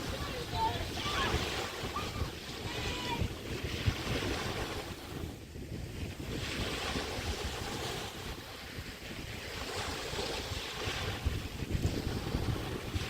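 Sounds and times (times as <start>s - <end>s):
waves washing on sandy beach: 0.0s - 13.0s
wind rumbling on microphone: 0.0s - 13.0s.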